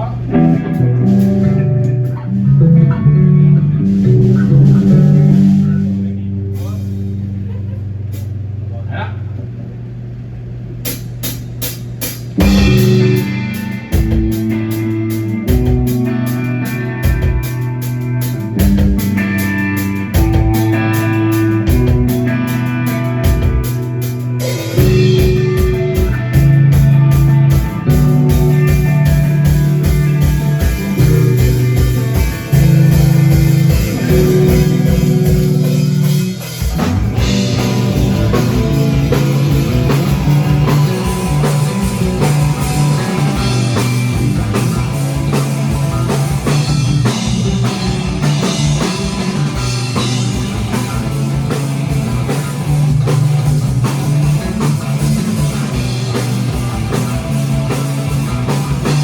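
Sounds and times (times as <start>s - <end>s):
electric guitar chords: 0.0s - 8.3s, 12.4s - 59.0s
bass: 0.0s - 59.0s.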